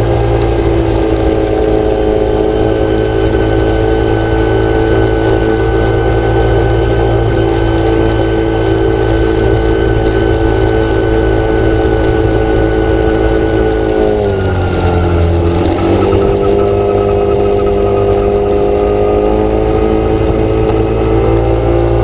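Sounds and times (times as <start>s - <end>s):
engine humming with whine: 0.0s - 22.0s.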